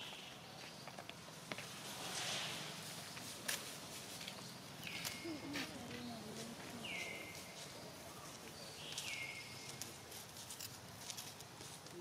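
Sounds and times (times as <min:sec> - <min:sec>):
stick clicks and leaf rustles: 0:01.0 - 0:12.0.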